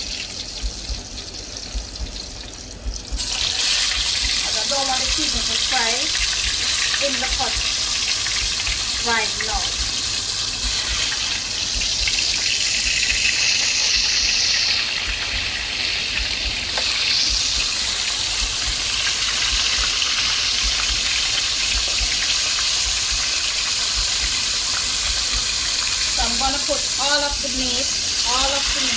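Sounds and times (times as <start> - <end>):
hot oil sizzling: 0.0 - 28.9.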